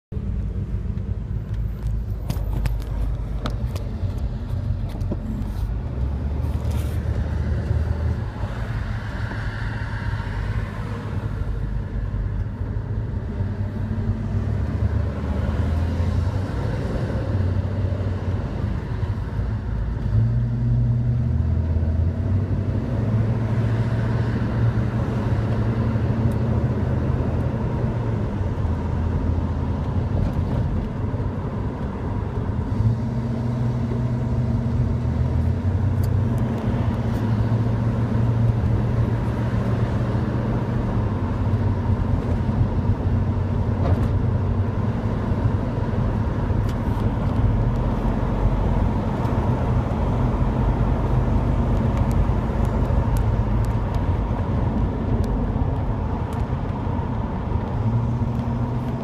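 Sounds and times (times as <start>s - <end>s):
road noise: 0.0s - 59.0s
car engine rumble: 0.1s - 59.0s.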